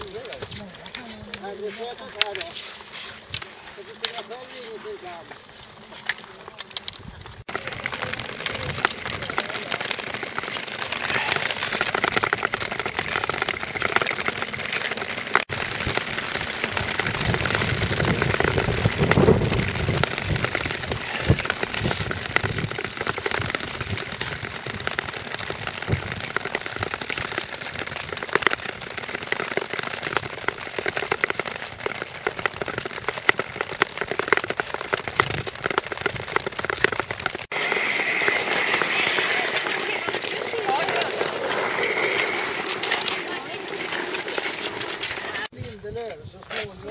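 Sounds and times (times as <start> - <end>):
ski poles ticking on ice: 0.0 - 45.5
skates scraping across ice: 0.0 - 45.8.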